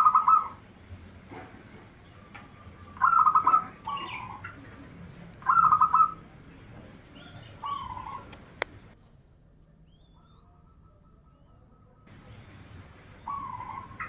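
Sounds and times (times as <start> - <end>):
dove cooing: 0.0 - 0.7, 2.0 - 9.0, 10.0 - 14.0.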